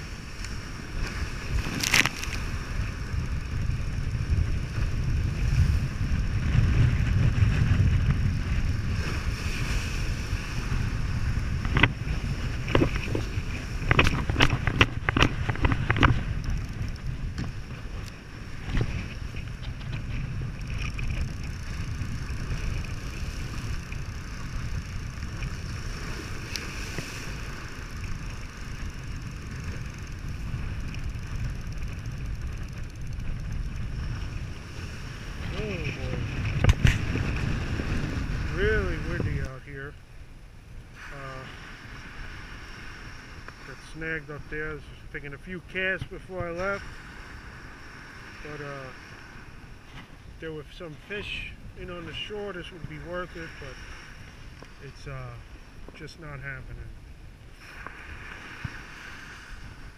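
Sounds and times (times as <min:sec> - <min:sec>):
surf washing against rocks: 0:00.0 - 0:40.1, 0:40.8 - 0:59.9
wind buffeting microphone: 0:00.0 - 0:59.9.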